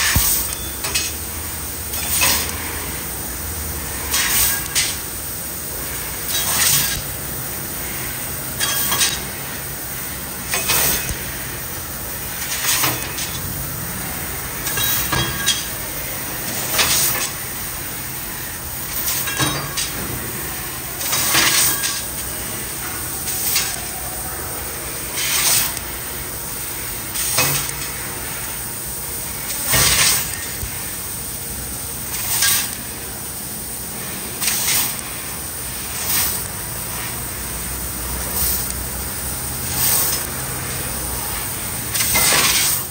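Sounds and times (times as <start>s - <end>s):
laser cutter hissing: 0.0s - 42.9s.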